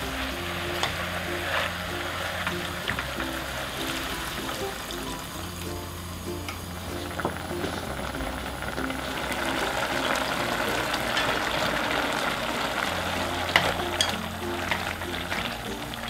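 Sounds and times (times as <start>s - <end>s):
food sizzling in a pan: 0.0s - 16.0s
light background music: 0.0s - 16.0s.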